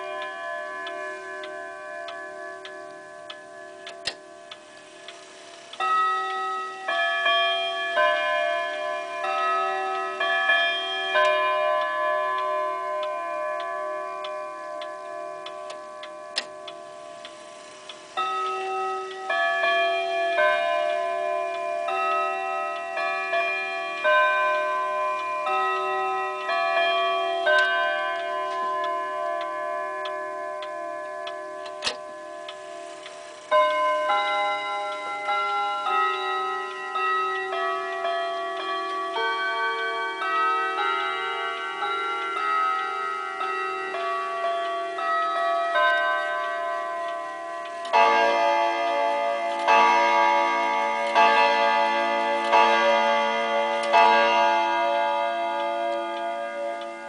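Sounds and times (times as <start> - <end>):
clock striking the hour: 0.0 - 57.0
wall clock chime melody: 0.0 - 57.0.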